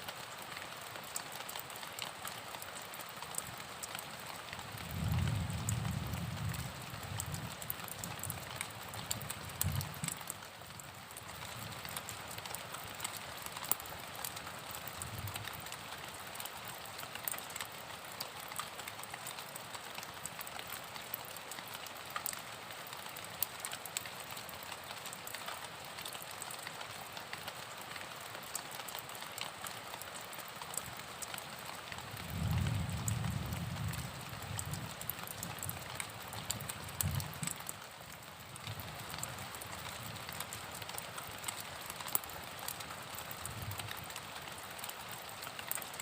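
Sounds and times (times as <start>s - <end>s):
raindrops ticking: 0.0s - 46.0s
steady rain: 0.0s - 46.0s.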